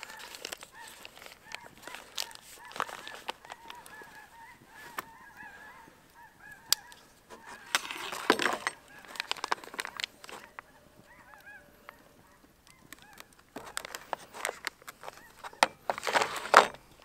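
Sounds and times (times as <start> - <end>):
geese honking: 0.0 - 15.6
campfire crackling: 0.0 - 17.0
rustling: 0.0 - 17.0.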